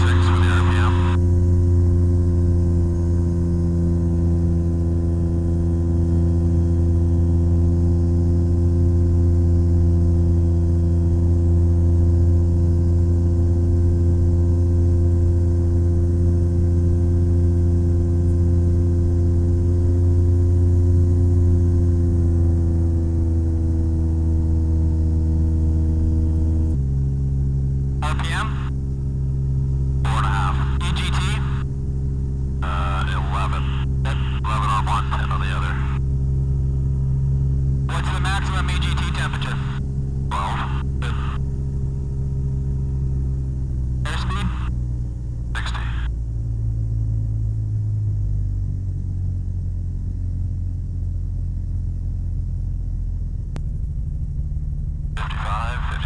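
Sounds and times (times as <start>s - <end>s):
ultralight aircraft engine droning: 0.0s - 56.0s.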